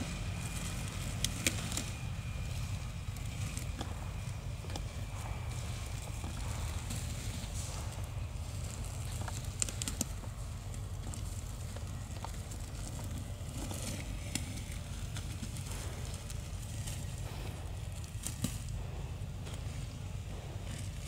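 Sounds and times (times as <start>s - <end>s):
grass and plastic rustling: 0.0s - 21.0s
low outdoor rumble: 0.0s - 21.0s.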